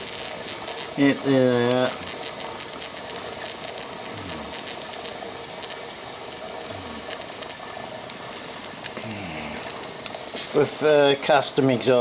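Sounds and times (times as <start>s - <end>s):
faint ticking: 0.0s - 11.8s
gas burner hissing: 0.0s - 12.0s.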